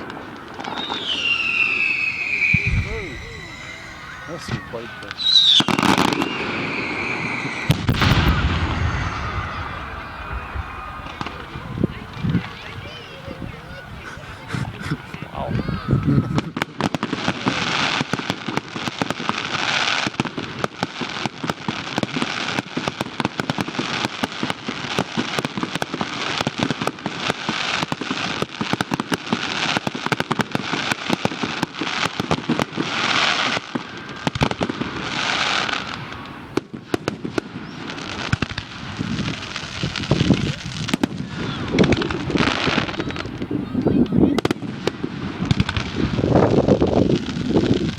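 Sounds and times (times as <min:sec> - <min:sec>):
fireworks crackling: 0:00.0 - 0:47.9
fireworks pops and bangs: 0:00.0 - 0:47.9.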